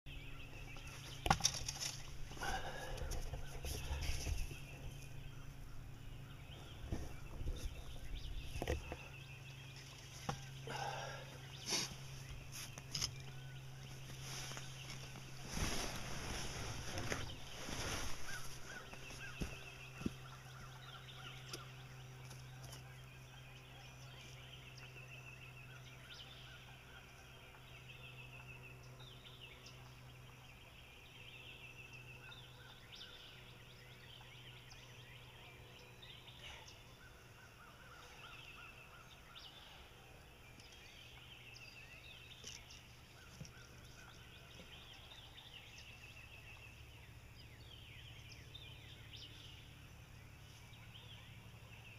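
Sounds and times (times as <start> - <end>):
birds trilling: 0.1 - 51.9
steady low hum: 0.1 - 51.9.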